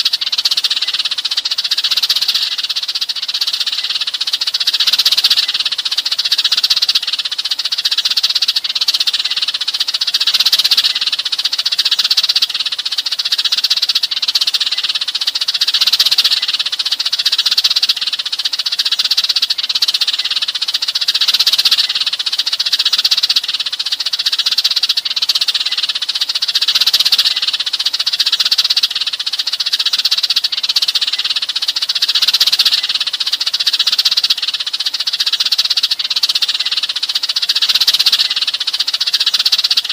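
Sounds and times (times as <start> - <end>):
sparrows chattering and chirping: 0.0 - 39.9.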